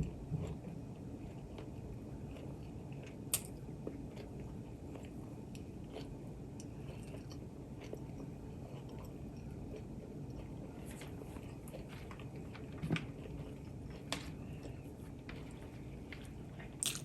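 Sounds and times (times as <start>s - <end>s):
low background hum: 0.0s - 17.0s
person chewing food: 0.0s - 17.0s.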